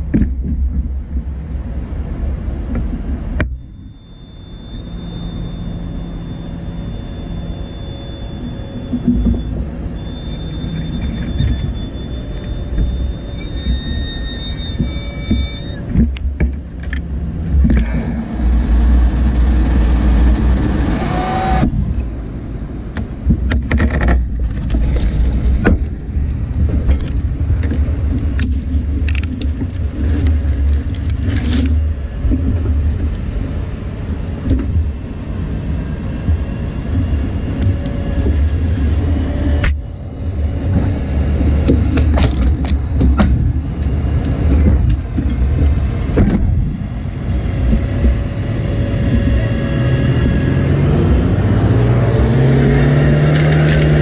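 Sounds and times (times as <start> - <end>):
hydraulic machine rumble and whine: 0.0 - 54.0.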